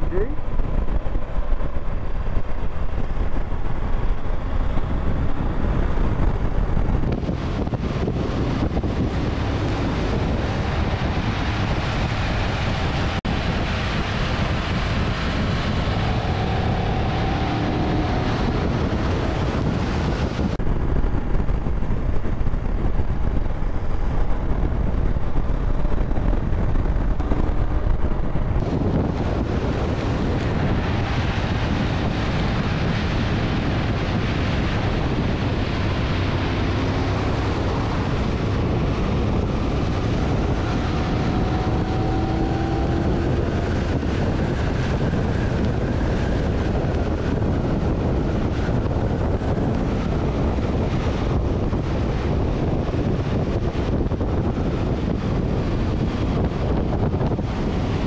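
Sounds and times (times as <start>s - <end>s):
vehicle rumble on road: 0.0s - 58.0s
wind on microphone: 0.0s - 58.0s.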